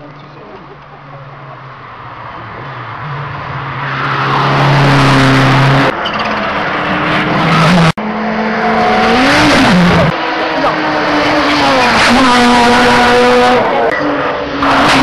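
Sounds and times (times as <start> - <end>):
rally car engine: 0.0 - 15.0
road and tyre noise: 0.0 - 15.0.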